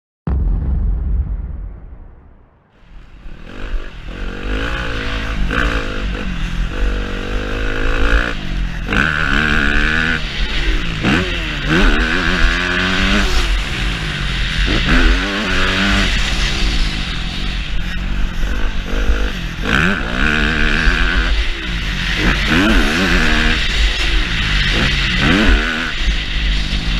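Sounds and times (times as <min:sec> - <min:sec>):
motocross bike engine revving: 0:03.2 - 0:26.9.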